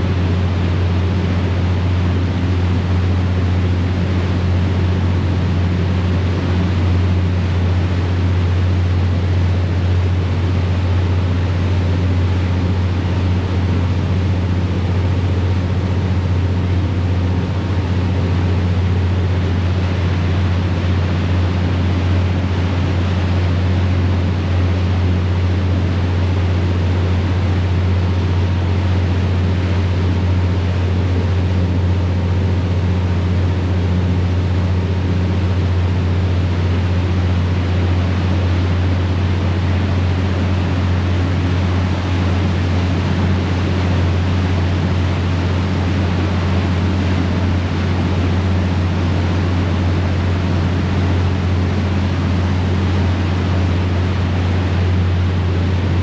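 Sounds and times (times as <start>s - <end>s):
propeller wake rushing: 0.0s - 56.0s.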